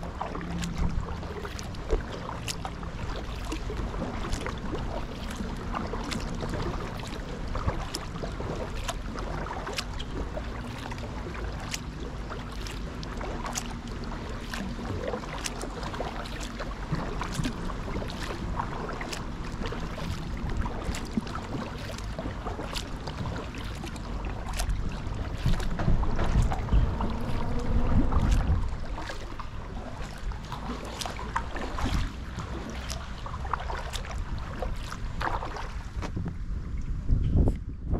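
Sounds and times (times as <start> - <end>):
water dripping and splashing: 0.0 - 36.3
paddle blades dipping: 0.0 - 36.5
low rumble: 0.0 - 37.9.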